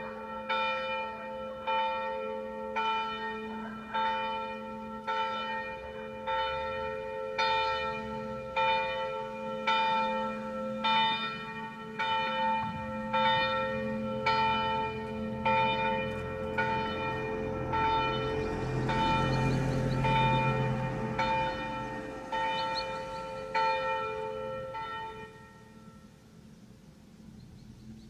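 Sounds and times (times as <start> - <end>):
church bell tolling: 0.0 - 26.2.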